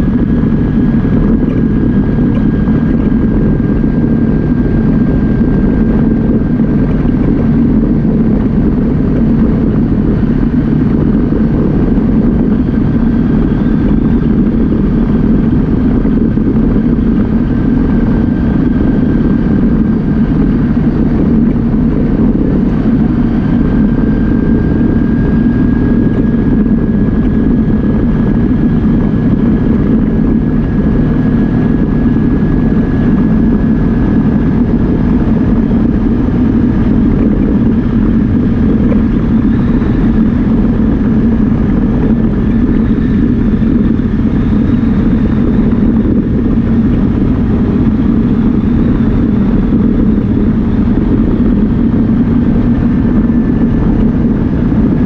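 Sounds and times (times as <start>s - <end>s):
engine running with low drone: 0.0s - 55.0s
thin steady whine: 0.0s - 55.0s.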